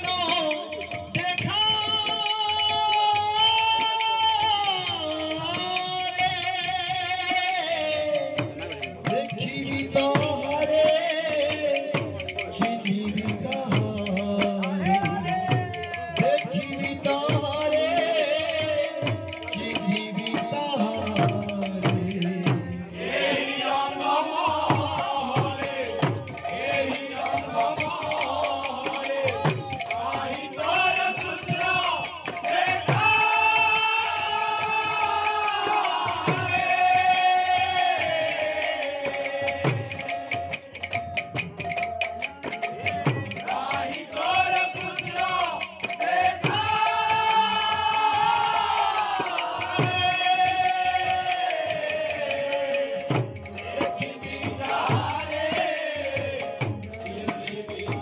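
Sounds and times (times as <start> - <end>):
fast jingling percussion: 0.0 - 58.0.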